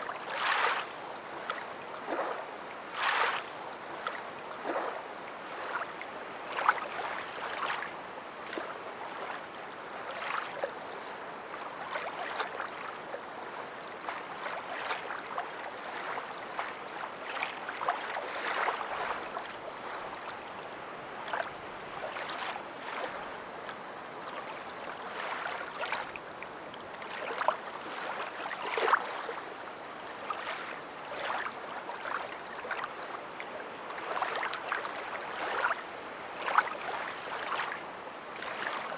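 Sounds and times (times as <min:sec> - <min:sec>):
water splashing and lapping: 0:00.0 - 0:38.9.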